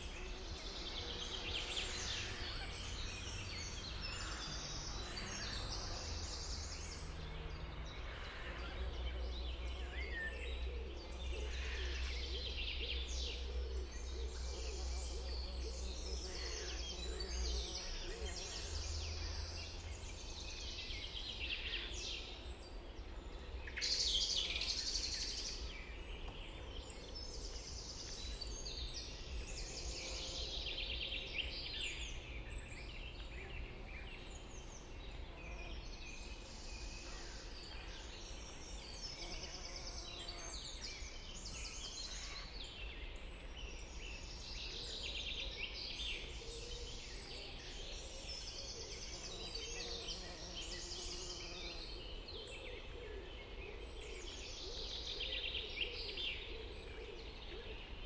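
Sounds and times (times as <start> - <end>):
birds chirping chorus: 0.0 - 58.0.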